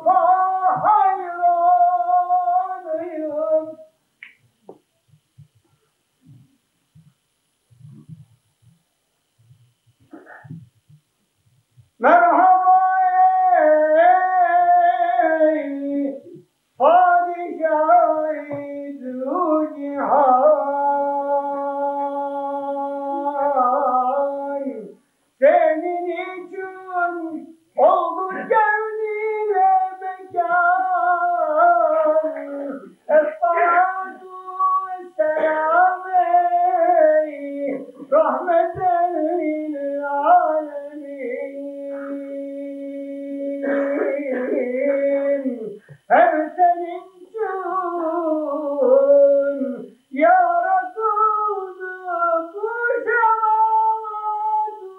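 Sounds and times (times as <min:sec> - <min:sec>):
person singing unaccompanied: 0:00.0 - 0:04.4, 0:11.8 - 0:54.9.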